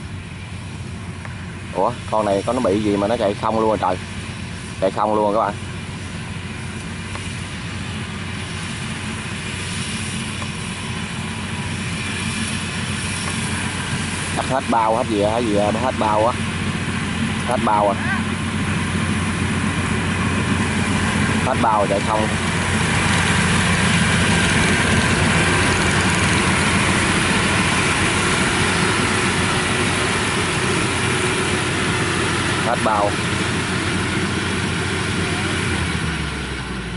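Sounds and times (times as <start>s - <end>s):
combine harvester running: 0.0s - 36.9s.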